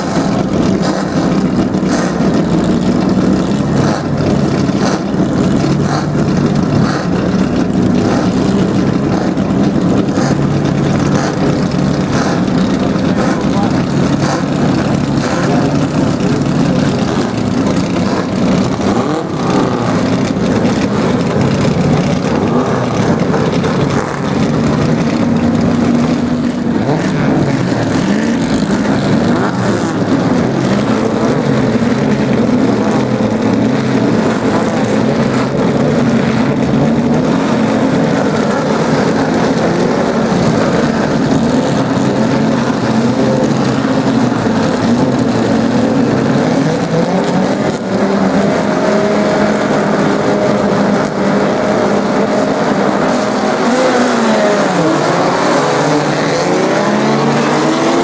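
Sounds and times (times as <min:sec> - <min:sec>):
engines revving: 0:00.0 - 0:58.0
racing car engines idling: 0:00.0 - 0:58.0.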